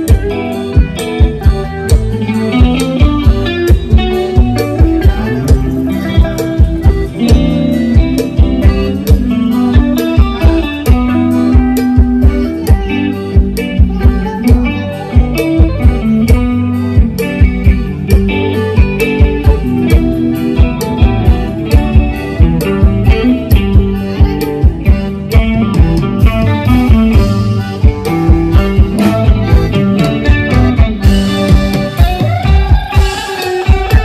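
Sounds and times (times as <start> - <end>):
electric guitar: 0.0 - 34.0
steady drum beat: 0.0 - 34.0.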